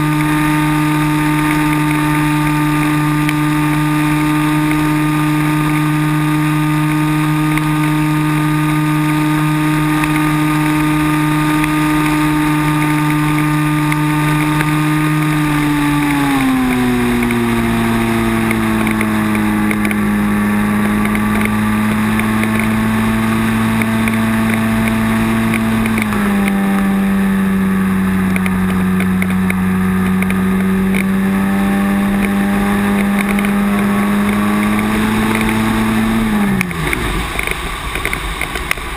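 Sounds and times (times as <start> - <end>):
electric motor and propeller running: 0.0 - 38.9.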